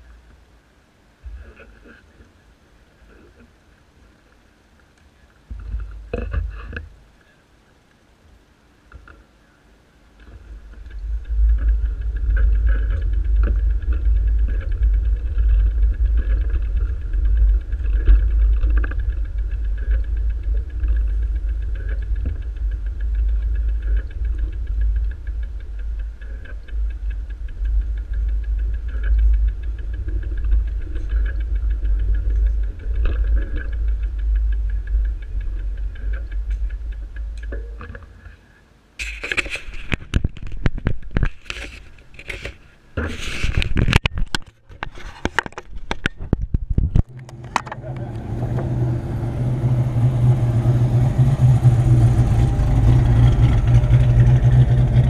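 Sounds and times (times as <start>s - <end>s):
wind rumble on microphone: 10.1s - 38.4s, 39.0s - 55.0s.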